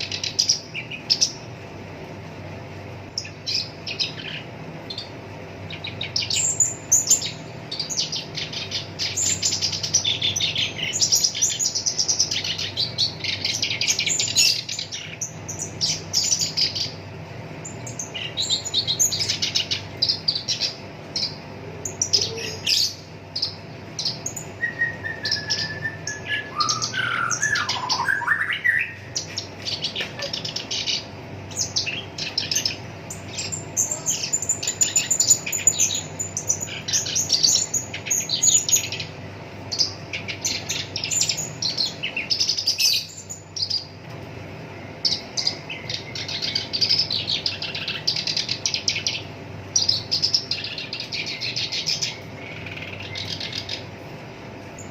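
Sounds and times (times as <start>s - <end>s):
warbler chattering song: 0.0s - 54.9s.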